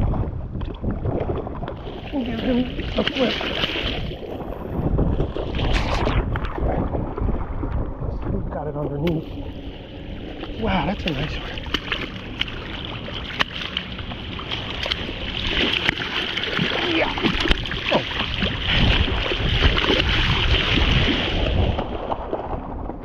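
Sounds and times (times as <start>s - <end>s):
water sloshing at shoreline: 0.0s - 23.0s
wind buffeting microphone: 0.0s - 23.0s.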